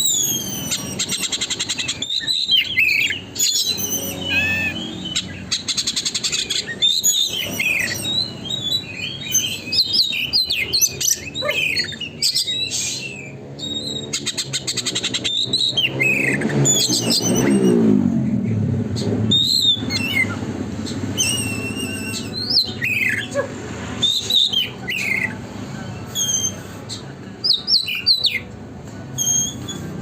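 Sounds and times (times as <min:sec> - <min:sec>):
bird singing whistles and chirps: 0:00.0 - 0:18.0, 0:19.2 - 0:23.3, 0:24.0 - 0:25.4, 0:26.0 - 0:28.5, 0:29.2 - 0:30.0.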